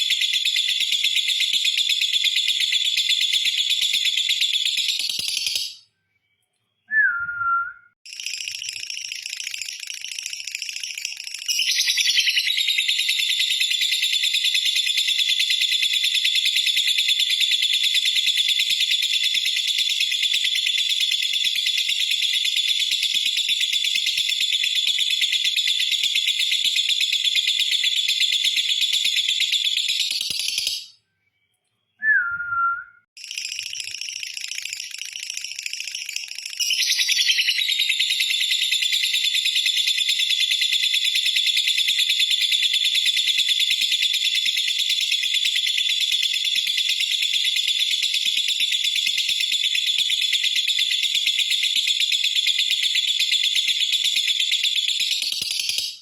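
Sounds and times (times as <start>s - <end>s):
lovebird high-pitched rapid chatter: 0.0s - 5.8s, 8.1s - 30.9s, 33.2s - 56.0s.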